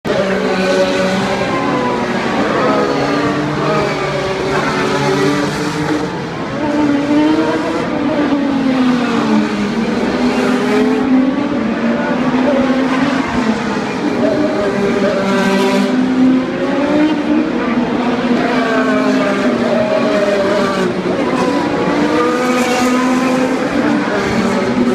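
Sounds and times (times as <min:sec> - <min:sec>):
race car engines: 0:00.0 - 0:24.9.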